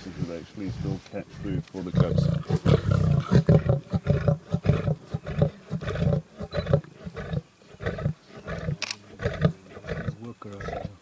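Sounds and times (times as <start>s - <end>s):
lions growling: 0.7s - 11.0s.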